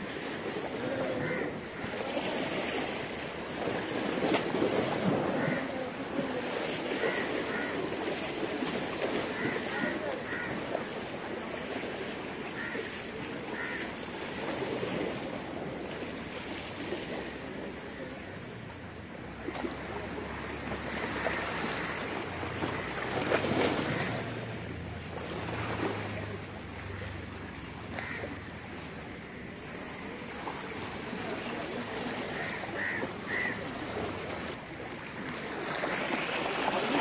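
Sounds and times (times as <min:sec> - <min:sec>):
water rushing: 0:00.0 - 0:37.0
wind: 0:00.0 - 0:37.0.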